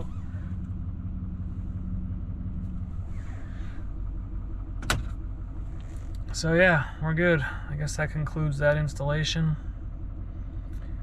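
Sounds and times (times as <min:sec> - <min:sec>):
diesel engine idling: 0:00.0 - 0:11.0
hum: 0:00.0 - 0:11.0.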